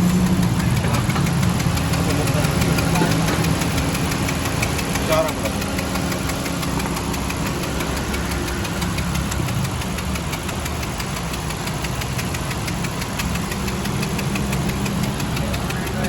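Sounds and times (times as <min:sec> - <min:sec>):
car engine idling: 0:00.0 - 0:16.0
fast even engine ticking: 0:00.0 - 0:16.0.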